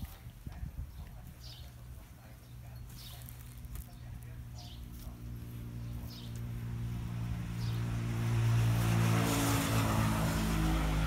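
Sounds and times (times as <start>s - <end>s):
vehicle engine hum passing: 1.8s - 11.0s.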